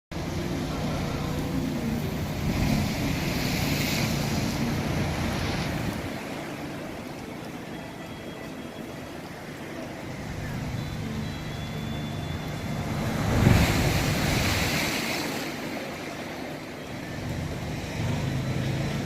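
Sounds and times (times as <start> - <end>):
sea waves breaking: 0.1 - 19.0.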